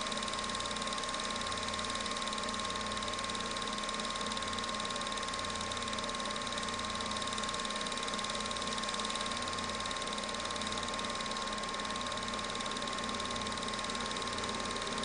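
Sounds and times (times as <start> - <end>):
film projector whirring: 0.0 - 15.0.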